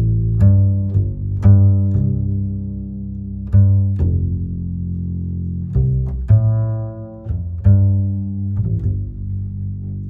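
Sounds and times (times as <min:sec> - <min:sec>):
sustained bass notes: 0:00.0 - 0:10.0.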